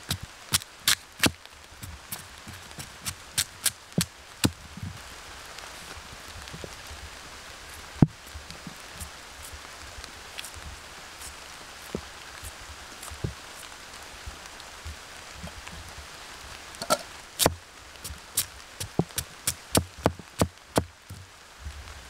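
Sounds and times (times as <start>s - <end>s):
rain hiss: 0.0s - 22.0s.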